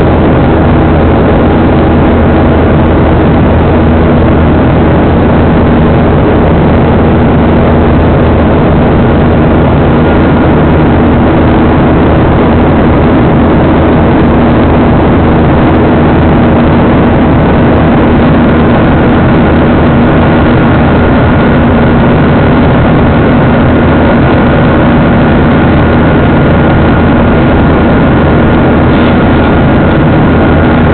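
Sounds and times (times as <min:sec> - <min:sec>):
faint whining tones: 0:00.0 - 0:30.9
jet engine cabin drone: 0:00.0 - 0:30.9.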